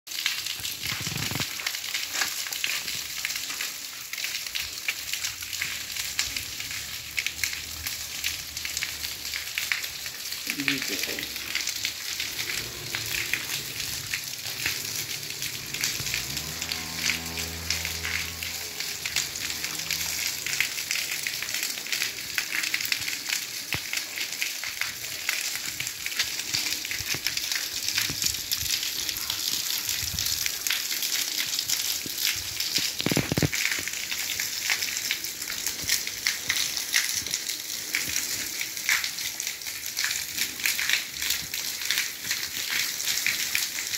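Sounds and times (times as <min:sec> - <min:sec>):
fountain water splashing: 0:00.1 - 0:43.9.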